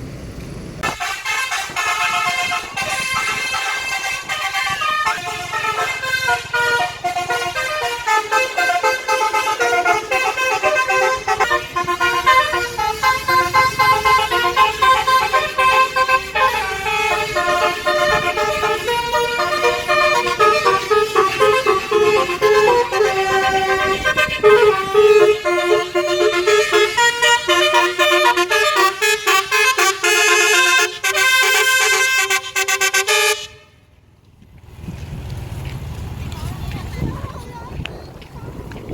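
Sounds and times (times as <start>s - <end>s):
musical bus horn melodies: 0.8s - 33.9s.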